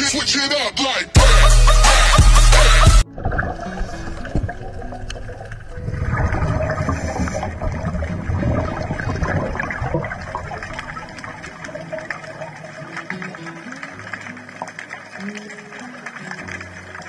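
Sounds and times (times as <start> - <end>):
underwater air bubbles gurgling: 3.0 - 17.0.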